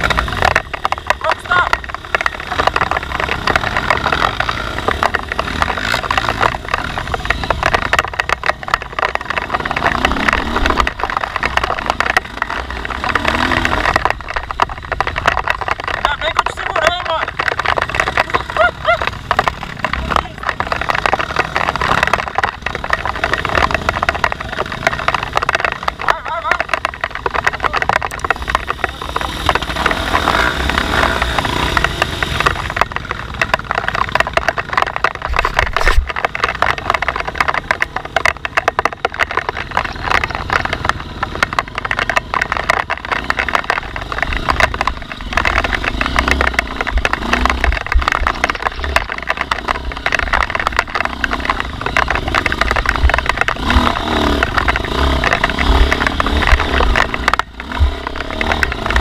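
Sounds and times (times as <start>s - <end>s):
dirt bike engine revving: 0.0s - 35.0s, 35.9s - 59.0s.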